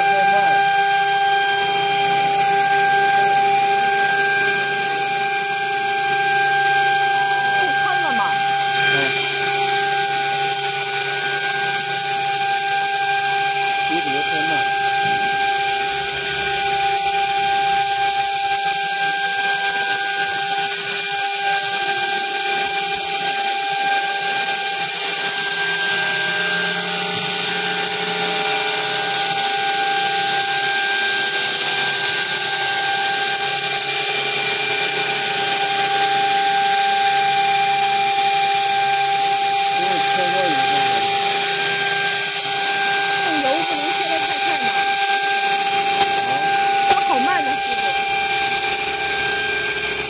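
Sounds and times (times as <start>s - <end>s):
cutting machine hissing and whining: 0.0s - 50.0s.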